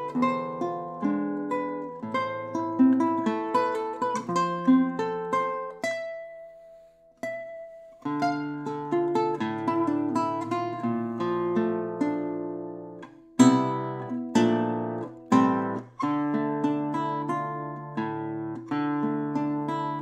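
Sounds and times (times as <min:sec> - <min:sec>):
fingerpicked classical guitar: 0:00.0 - 0:20.0.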